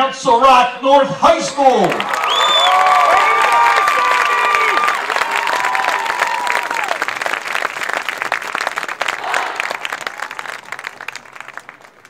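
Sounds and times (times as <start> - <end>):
crowd applauding and cheering: 1.7 - 12.0.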